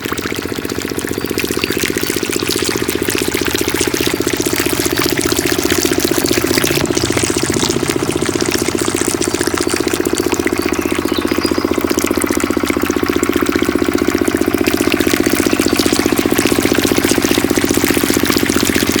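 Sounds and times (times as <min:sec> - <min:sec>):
small diesel engine idling: 0:00.0 - 0:19.0.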